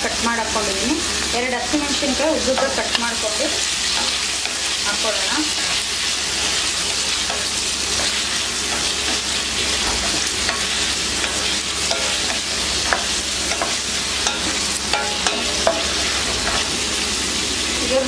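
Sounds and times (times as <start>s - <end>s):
food sizzling in hot oil: 0.0s - 18.0s
spatula scraping pan: 2.4s - 17.0s.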